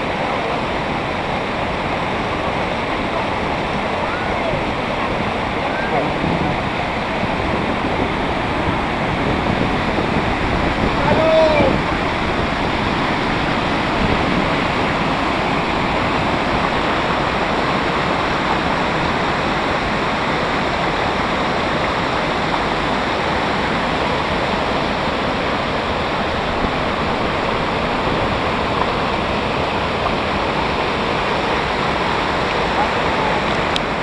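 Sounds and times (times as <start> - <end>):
water rushing over a weir: 0.0 - 34.0.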